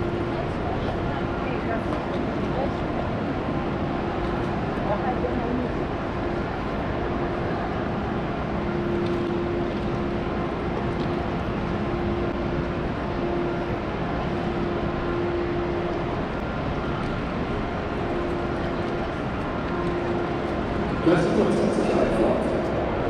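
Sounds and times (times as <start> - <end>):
constant low hum: 0.0 - 23.0
station concourse noise: 0.0 - 23.0.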